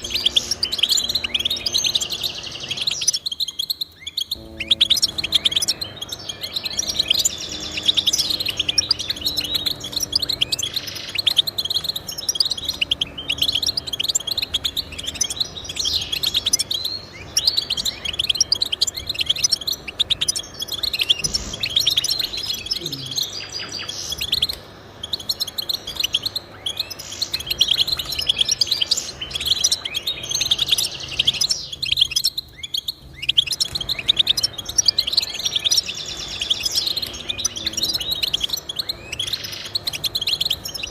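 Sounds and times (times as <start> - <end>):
goldfinch twittering song: 0.0 - 40.9.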